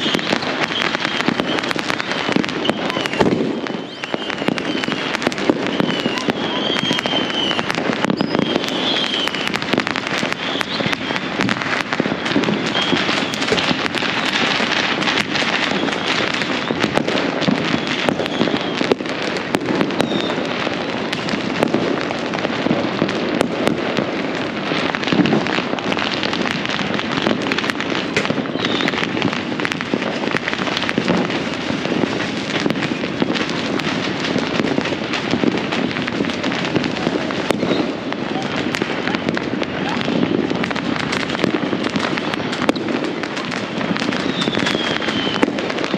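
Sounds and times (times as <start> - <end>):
firework whistles: 0.0 - 45.9
fireworks bangs and crackles: 0.0 - 45.9.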